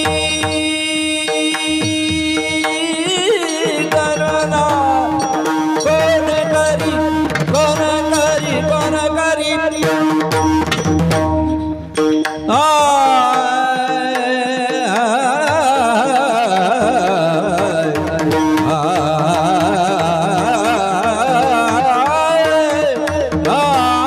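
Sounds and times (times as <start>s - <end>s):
person singing wordless vocal: 0.0s - 10.3s, 12.5s - 24.0s.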